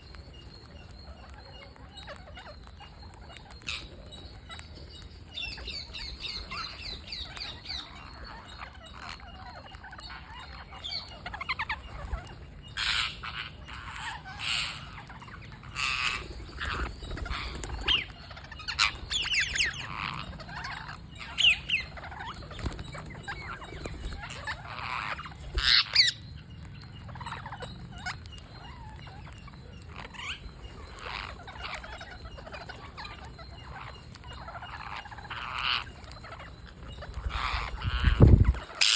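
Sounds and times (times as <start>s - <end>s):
parrots squawking and chirping: 0.2s - 38.9s.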